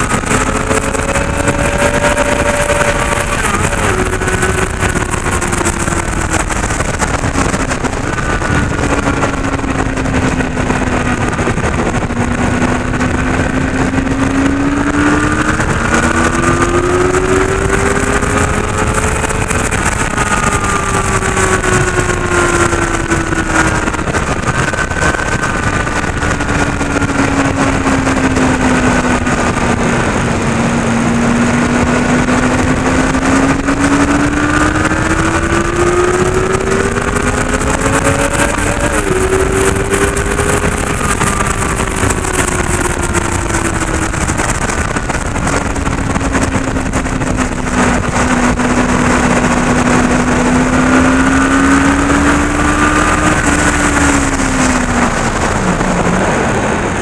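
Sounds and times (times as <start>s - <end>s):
motorcycle engine at speed: 0.0s - 57.0s
wind rush on microphone: 0.0s - 57.0s.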